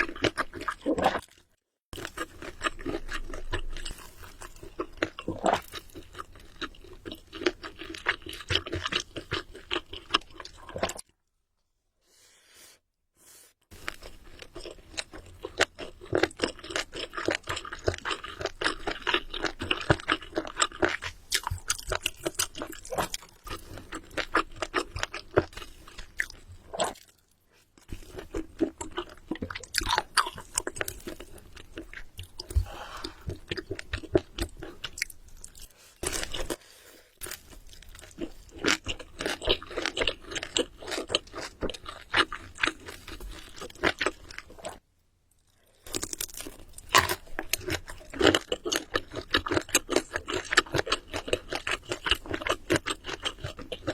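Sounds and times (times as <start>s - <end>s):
chewing and crunching food: 0.0s - 11.3s, 13.7s - 53.9s.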